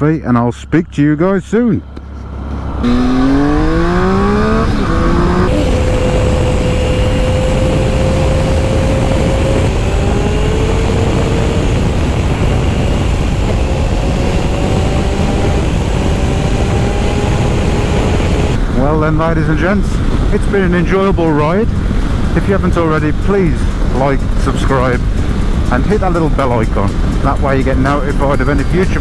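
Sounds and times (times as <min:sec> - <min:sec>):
motorcycle engine accelerating: 0:01.8 - 0:29.0
wind rush: 0:01.8 - 0:29.0.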